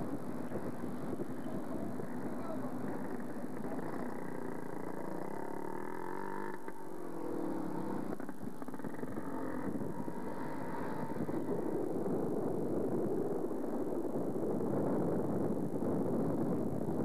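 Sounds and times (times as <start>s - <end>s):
road and traffic noise: 0.0s - 17.0s
vehicle engine running: 0.0s - 17.0s.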